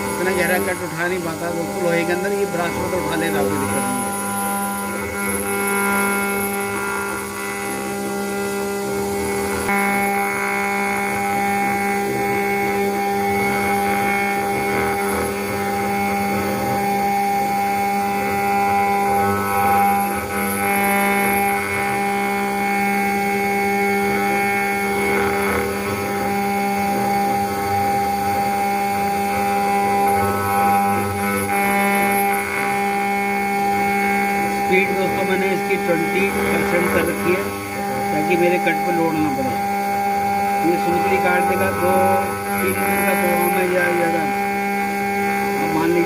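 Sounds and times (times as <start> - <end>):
engraving machine spindle whining: 0.0 - 46.0
tool cutting into brass: 0.0 - 46.0.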